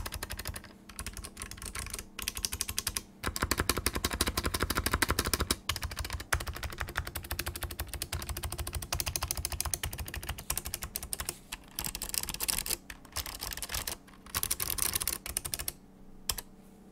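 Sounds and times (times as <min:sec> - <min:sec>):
fast mechanical keyboard typing: 0:00.0 - 0:16.5.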